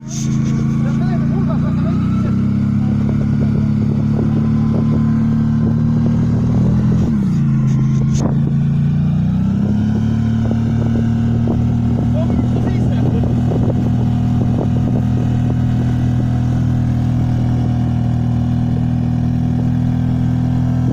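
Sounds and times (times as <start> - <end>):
atv engine running: 0.0 - 20.9.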